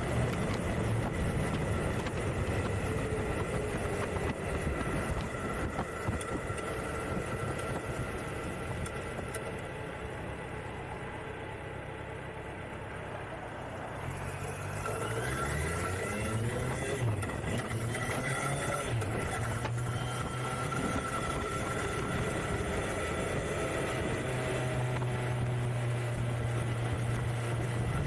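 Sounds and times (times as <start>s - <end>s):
motorcycle engine shifting up gears: 0.0s - 9.9s, 14.0s - 28.0s.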